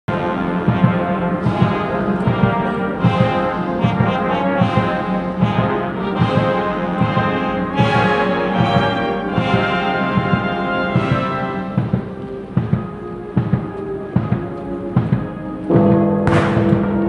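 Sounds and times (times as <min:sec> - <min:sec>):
brass band funeral march: 0:00.1 - 0:17.0
low drum beats: 0:00.1 - 0:17.0.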